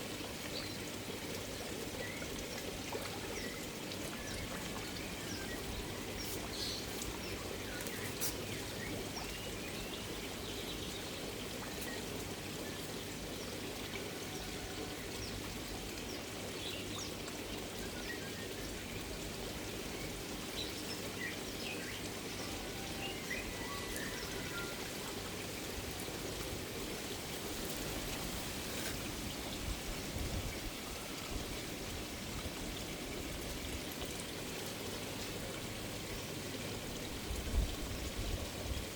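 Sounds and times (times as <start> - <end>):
pond water pouring and trickling: 0.0 - 38.9
small drips and splashes: 0.0 - 38.9.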